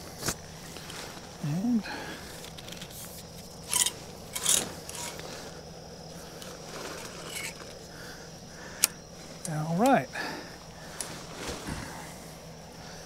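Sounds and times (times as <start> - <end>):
tent fabric rustling: 0.0 - 8.3, 10.4 - 12.9.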